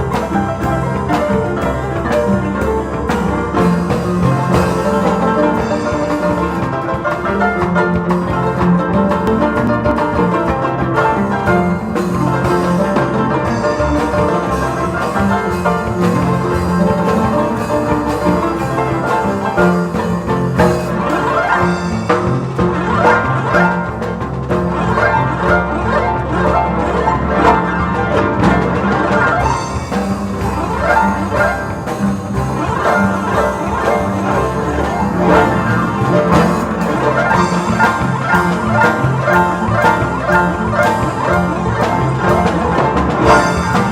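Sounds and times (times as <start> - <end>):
harps playing plucked melody: 0.0 - 43.9.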